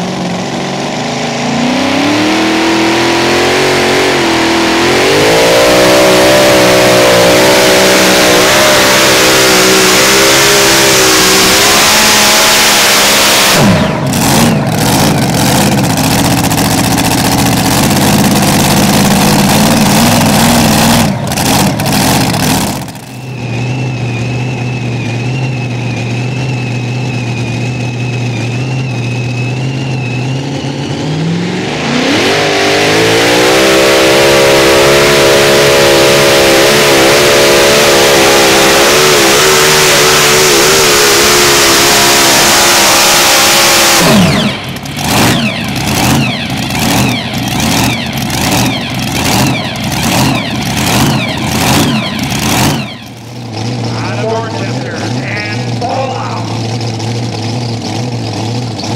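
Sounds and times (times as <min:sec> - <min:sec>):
high whine: 0:00.0 - 0:57.9
tractor engine at full throttle: 0:00.0 - 0:58.9.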